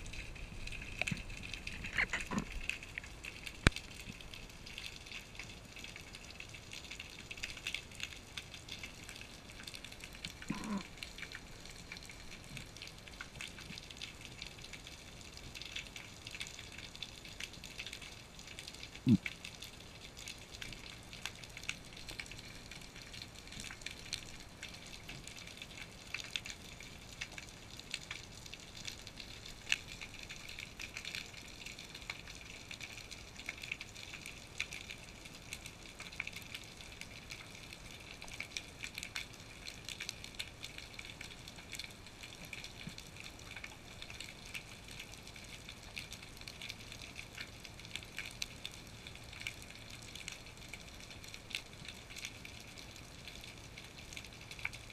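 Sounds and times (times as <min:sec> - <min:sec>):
underwater crackle of tiny clicks: 0:00.0 - 0:54.9.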